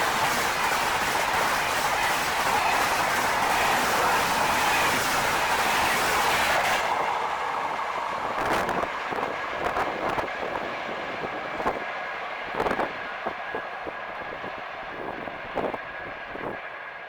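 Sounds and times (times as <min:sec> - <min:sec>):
train rushing past: 0:00.0 - 0:17.0
wheels clacking over rail joints: 0:00.0 - 0:17.0.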